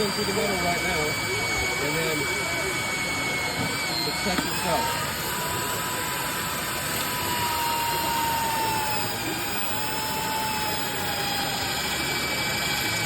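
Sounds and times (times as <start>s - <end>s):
electric drill whining: 0.0s - 13.0s.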